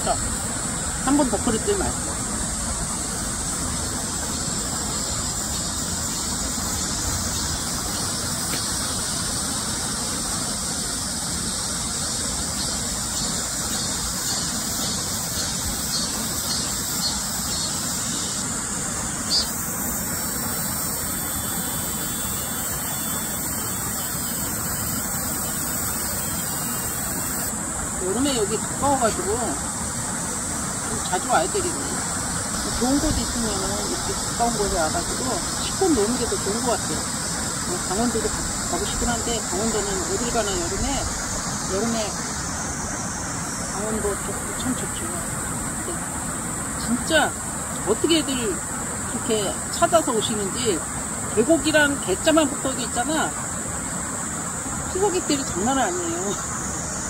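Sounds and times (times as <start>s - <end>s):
high-pitched hiss: 0.0s - 57.0s
stream rushing: 0.0s - 57.0s.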